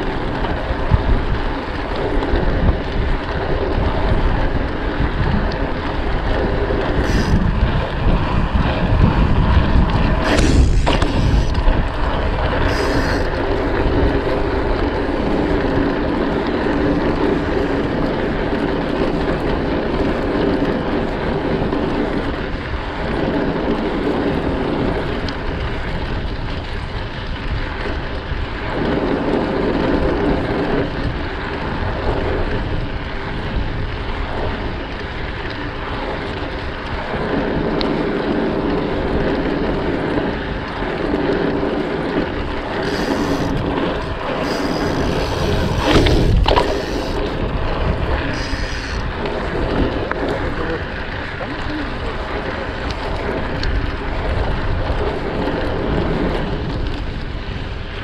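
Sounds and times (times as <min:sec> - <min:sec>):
bike tyres rolling on pavement: 0:00.0 - 0:58.0
wind on microphone: 0:00.0 - 0:58.0.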